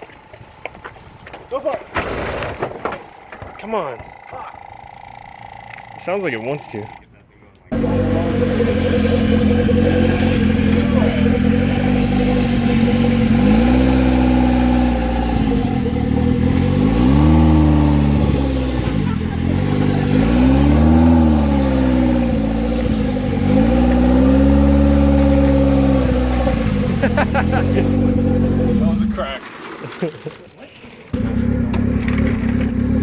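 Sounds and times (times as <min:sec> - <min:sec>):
car engine cranking and catching: 0:02.0 - 0:33.0.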